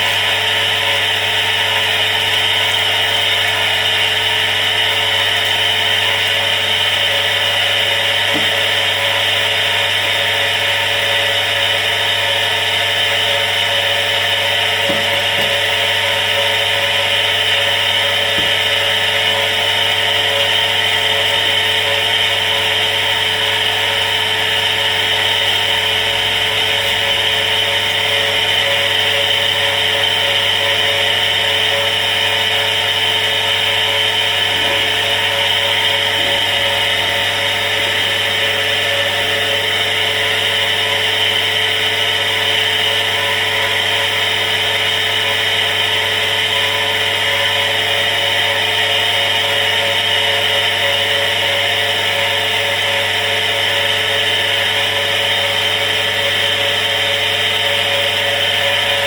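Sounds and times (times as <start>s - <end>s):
electric water pump running: 0.0s - 59.0s.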